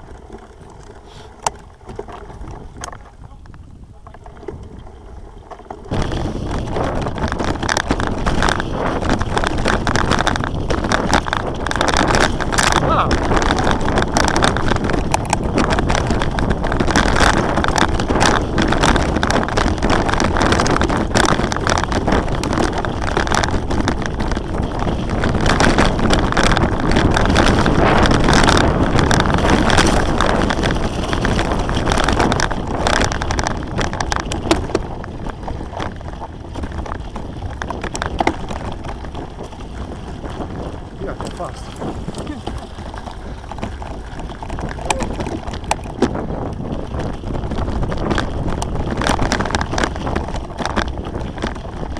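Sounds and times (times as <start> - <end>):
bike rattling and knocking: 0.0 - 51.9
bike tyres rushing on dirt: 0.0 - 51.9
wind buffeting microphone: 0.0 - 51.9.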